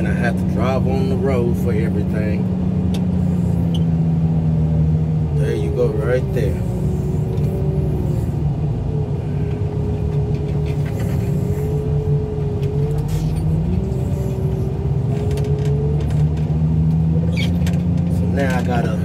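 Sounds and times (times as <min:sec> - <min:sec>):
loader engine running: 0:00.0 - 0:19.0.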